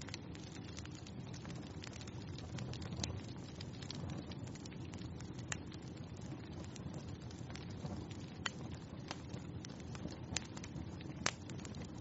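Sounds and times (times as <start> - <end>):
fireplace fire crackling and popping: 0.0 - 12.0
low rumble of flames: 0.0 - 12.0.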